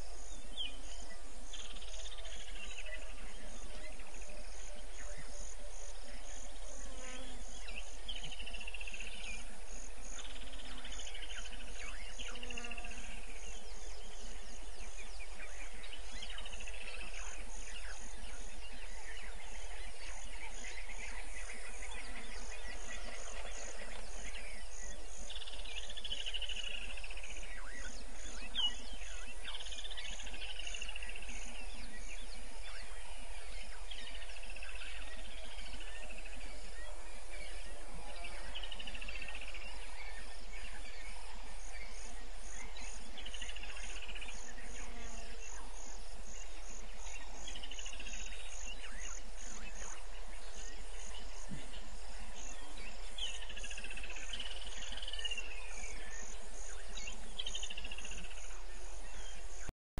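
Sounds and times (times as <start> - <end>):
insects chirping: 0.0 - 59.7.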